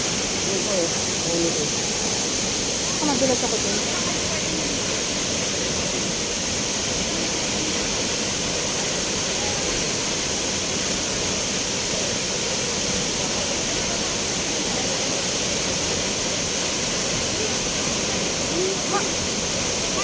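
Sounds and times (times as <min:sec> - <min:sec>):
spring water flowing: 0:00.0 - 0:20.0.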